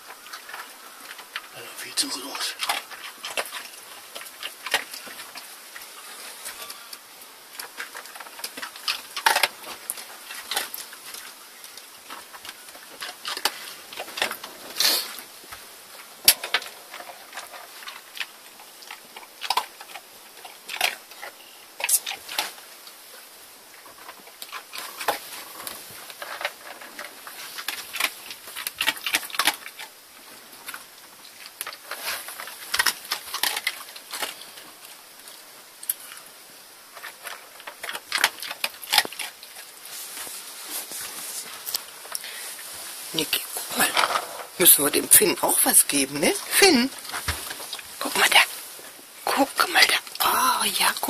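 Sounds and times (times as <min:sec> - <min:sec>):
dog crunching kibble: 0:00.0 - 0:23.1, 0:23.7 - 0:51.0.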